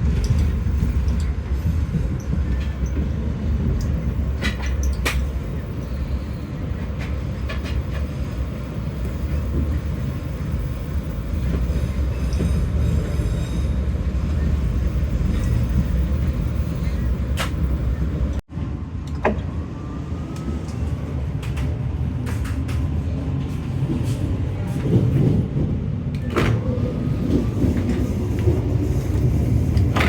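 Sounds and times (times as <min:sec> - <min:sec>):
train carriage rumble: 0:00.0 - 0:30.0.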